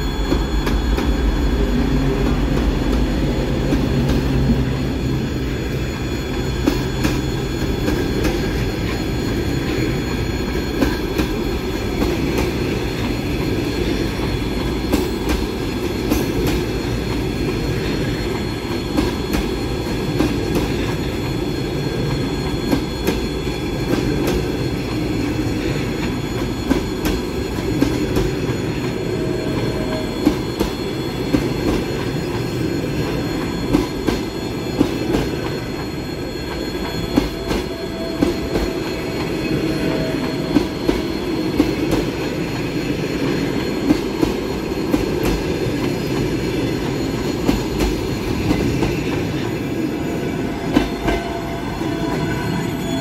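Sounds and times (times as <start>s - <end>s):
wheel squeals: 0.0s - 53.0s
wheels rumbling on rails: 0.0s - 53.0s.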